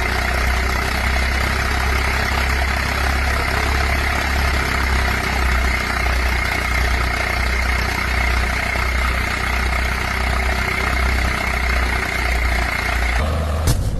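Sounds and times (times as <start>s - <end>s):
tractor engine idling: 0.0s - 13.9s.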